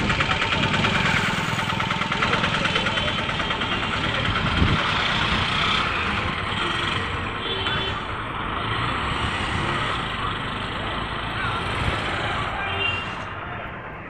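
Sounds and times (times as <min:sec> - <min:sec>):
truck engine running: 0:00.0 - 0:14.0
vehicle engines: 0:00.0 - 0:14.0.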